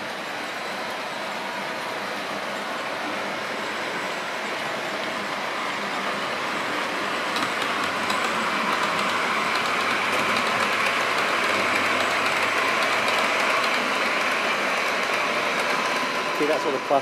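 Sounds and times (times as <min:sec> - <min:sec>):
model train running: 0:00.0 - 0:17.0.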